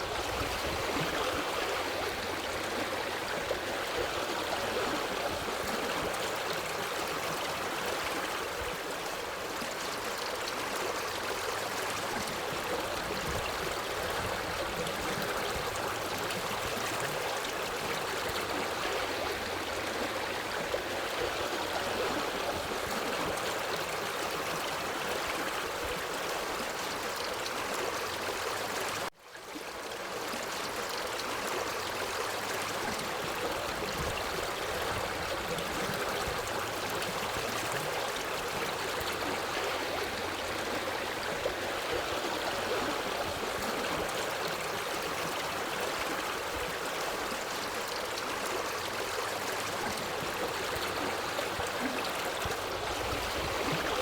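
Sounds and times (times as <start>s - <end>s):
water stream flowing: 0.0s - 54.0s.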